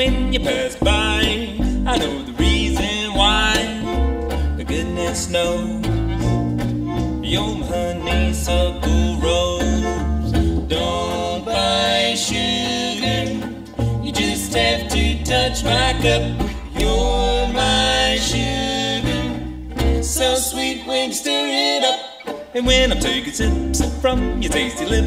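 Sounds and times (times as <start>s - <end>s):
fiddle melody: 0.0s - 25.0s
plucked upright bass: 0.0s - 25.0s
strummed guitar: 0.0s - 25.0s.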